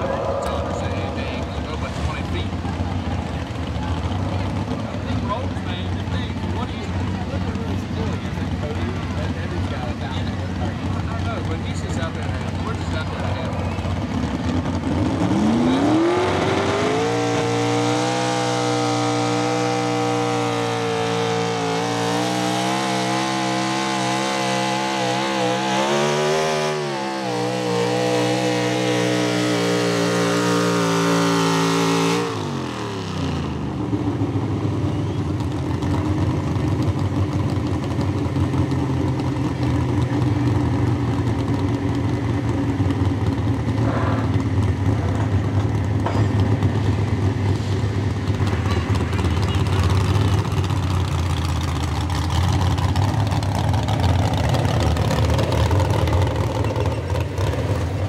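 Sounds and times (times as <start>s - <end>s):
tractor engine revving: 0.0s - 58.0s.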